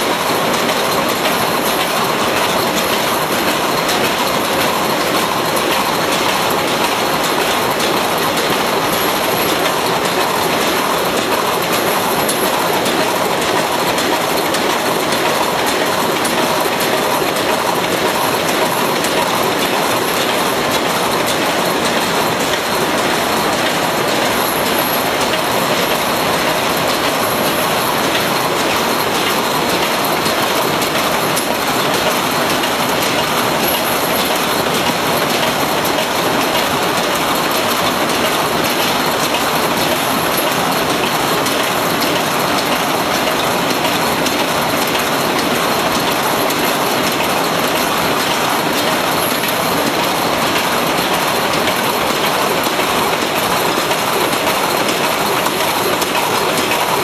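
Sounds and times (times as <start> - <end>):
machine mechanical clatter: 0.0 - 57.0.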